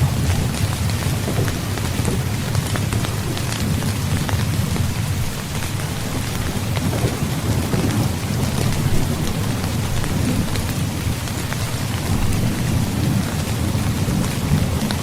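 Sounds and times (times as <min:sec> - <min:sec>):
heavy rain falling: 0:00.0 - 0:15.0
low rumble of thunder: 0:00.0 - 0:15.0
sharp raindrop hits: 0:00.0 - 0:15.0.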